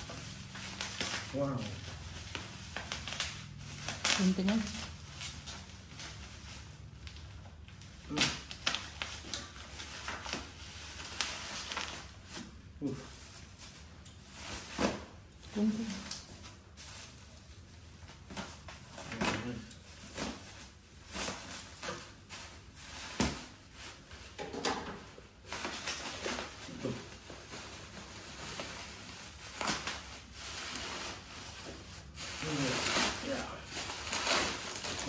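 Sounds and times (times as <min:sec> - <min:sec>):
plastic wrap crinkling: 0:00.0 - 0:35.0.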